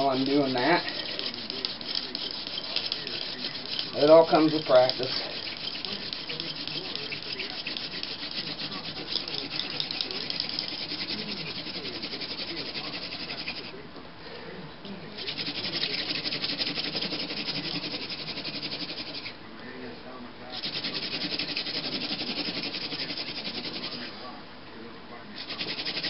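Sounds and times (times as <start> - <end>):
spindle rubbing on wooden board: 0.0 - 13.7, 15.2 - 19.3, 20.6 - 24.1, 25.4 - 26.0.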